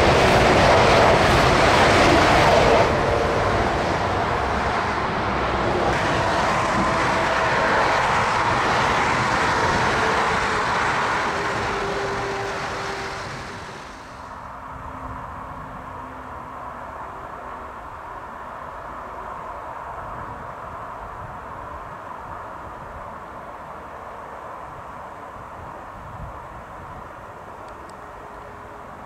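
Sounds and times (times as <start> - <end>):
high-speed train rushing past: 0.0 - 29.0
motorway traffic rush: 0.0 - 29.0.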